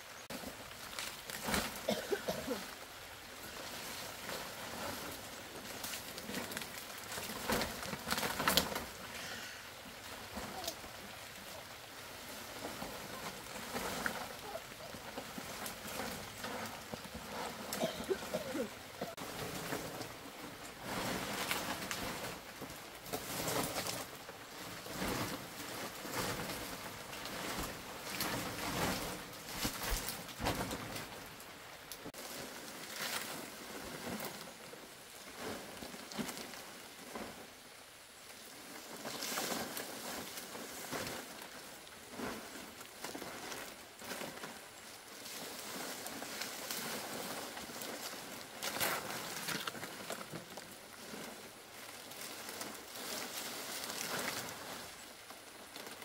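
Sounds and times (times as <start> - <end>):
palm fronds rustling and scraping: 0.0 - 56.0.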